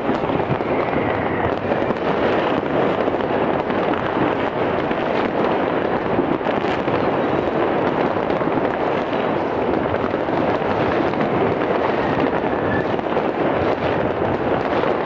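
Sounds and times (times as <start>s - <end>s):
firecrackers and fireworks crackling: 0.0s - 15.0s.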